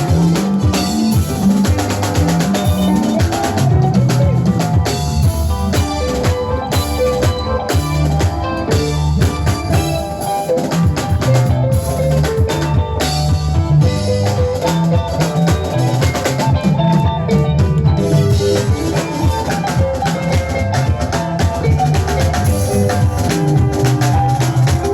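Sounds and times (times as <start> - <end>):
bass line: 0.0 - 24.9
drum kit playing fast: 0.0 - 24.9
pitched instruments holding notes: 0.0 - 24.9.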